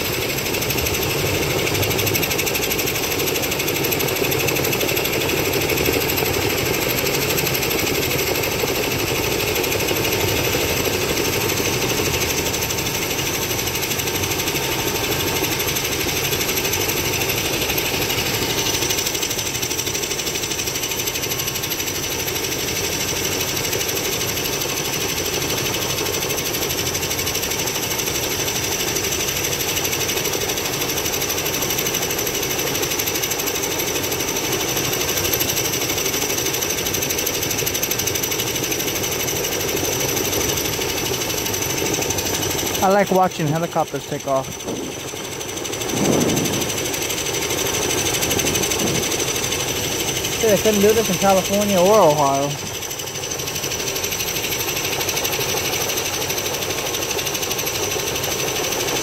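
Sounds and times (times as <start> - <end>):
helicopter rotor chop and whine: 0.0 - 59.0.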